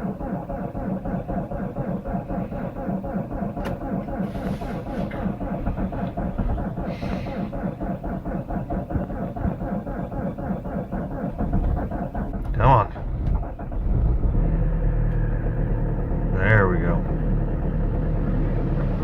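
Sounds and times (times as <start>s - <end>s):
engine cranking by starter: 0.0s - 19.0s.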